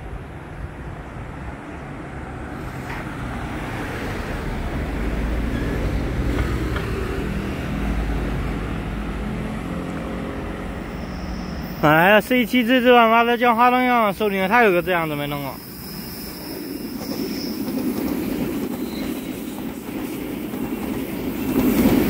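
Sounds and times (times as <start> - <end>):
road traffic: 0.0 - 22.0
train rumble in tunnel: 0.0 - 22.0.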